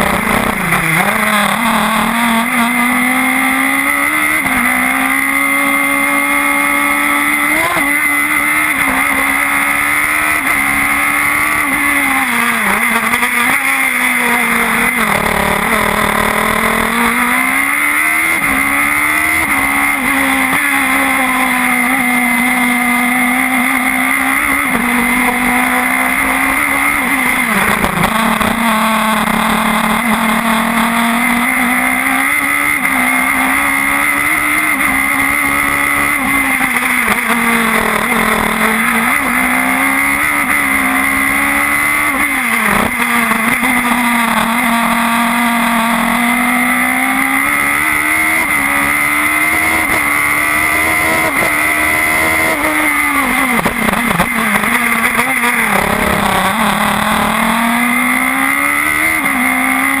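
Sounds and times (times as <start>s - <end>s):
racing car engine shifting gears: 0.0s - 60.0s.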